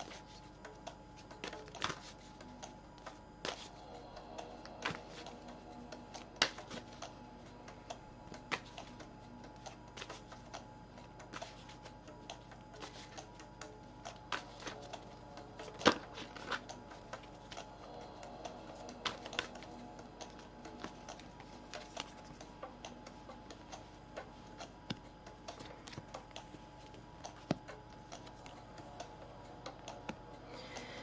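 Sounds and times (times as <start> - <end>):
quiet background music: 0.0 - 31.0.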